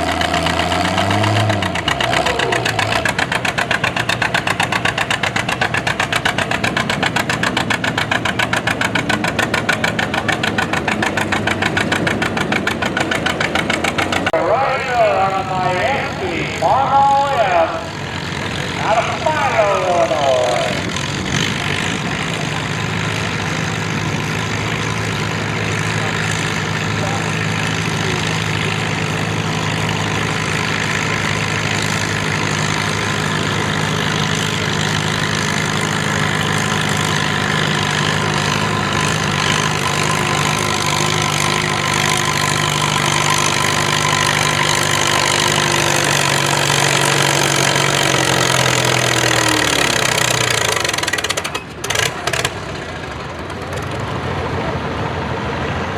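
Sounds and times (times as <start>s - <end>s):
tractor engine running hard: 0.0s - 55.9s.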